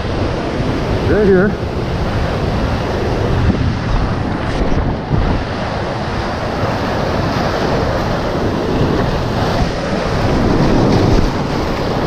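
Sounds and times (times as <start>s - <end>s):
surf foaming over boulders: 0.0s - 12.0s
wind buffeting microphone: 0.0s - 12.0s.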